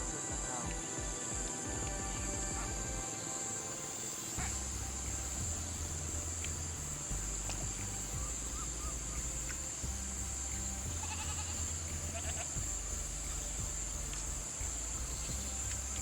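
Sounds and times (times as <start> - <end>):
insect chorus drone: 0.0 - 16.0.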